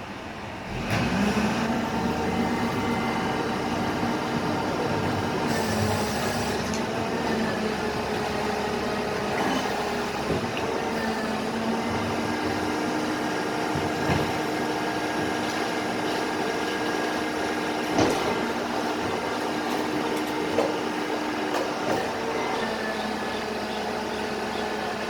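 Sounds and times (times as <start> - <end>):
garbage truck engine drone: 0.0 - 25.0.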